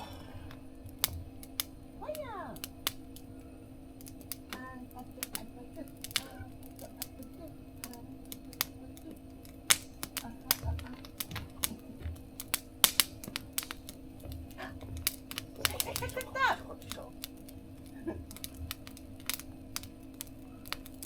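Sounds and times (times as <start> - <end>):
wood fire pops and snaps: 0.0 - 21.0.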